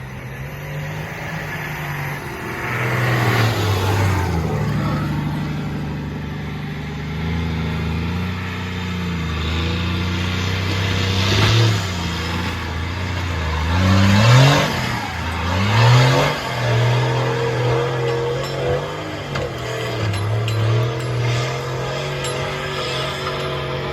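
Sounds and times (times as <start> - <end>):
diesel engine running and revving: 0.0 - 23.9.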